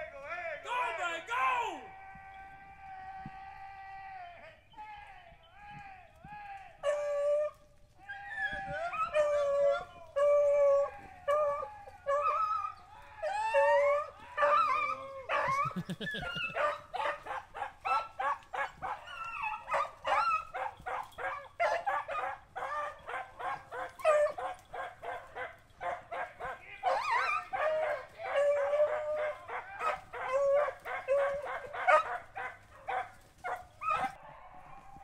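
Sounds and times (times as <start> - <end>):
hounds barking: 6.8 - 35.0
hounds howling: 6.8 - 35.0.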